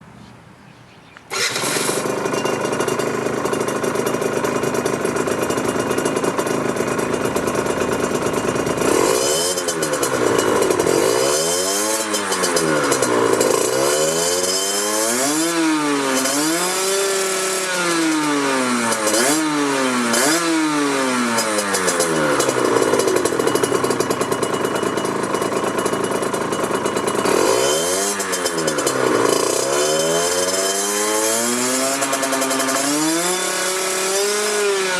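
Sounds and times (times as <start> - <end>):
two-stroke engine revving: 1.3 - 34.9.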